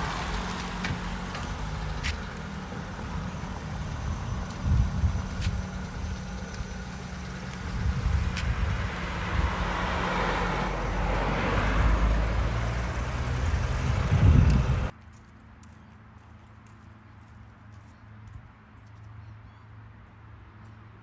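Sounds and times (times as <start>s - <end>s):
vehicle engine rumble: 0.0s - 18.6s
road noise: 0.0s - 21.0s.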